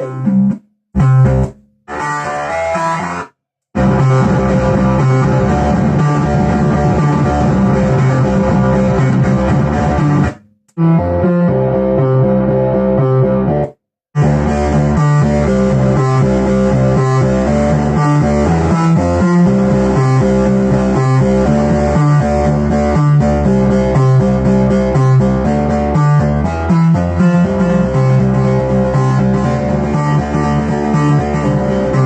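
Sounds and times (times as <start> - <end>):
layered synth notes: 0.0 - 32.0
rhythmic synth bass line: 0.0 - 32.0.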